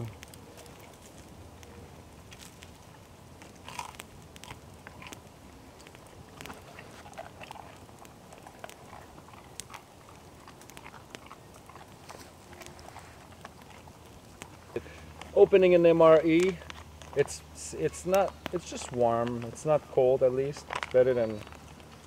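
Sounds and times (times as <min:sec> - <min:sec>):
campfire crackling and popping: 0:00.0 - 0:22.0
chewing: 0:00.0 - 0:22.0.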